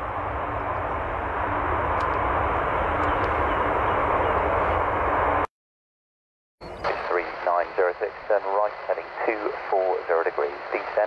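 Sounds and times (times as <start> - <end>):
jet engines roaring: 0.0 - 5.5, 6.8 - 11.0.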